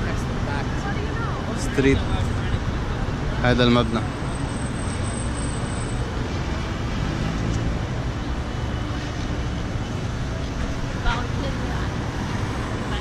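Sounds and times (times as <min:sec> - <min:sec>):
passing cars: 0:00.0 - 0:13.0.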